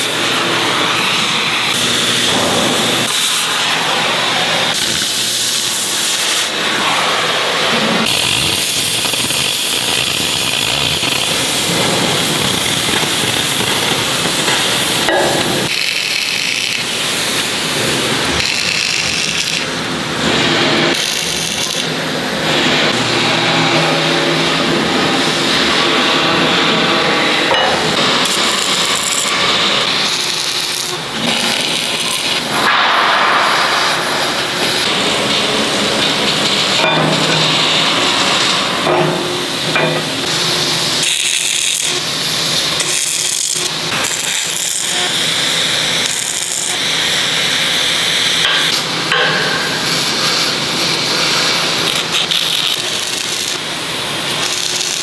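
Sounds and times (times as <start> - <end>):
welding crackle: 1.0 - 22.6, 27.5 - 55.0.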